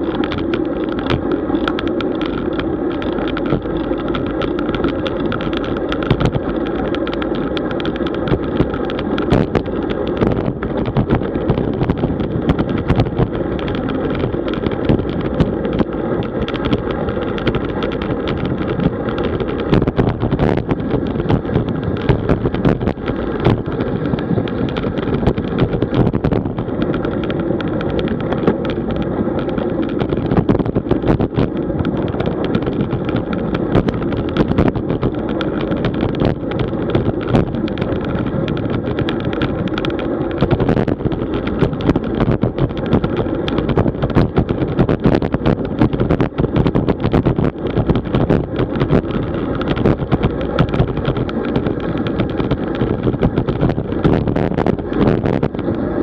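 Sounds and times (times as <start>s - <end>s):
rushing wind: 0.0s - 56.0s
small knocks from road bumps: 0.0s - 56.0s
tyre road noise: 0.0s - 56.0s.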